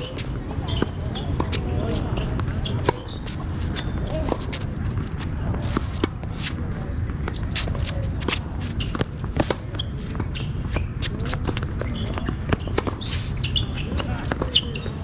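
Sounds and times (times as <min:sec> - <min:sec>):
shoes shuffling and squeaking on court: 0:00.0 - 0:15.0.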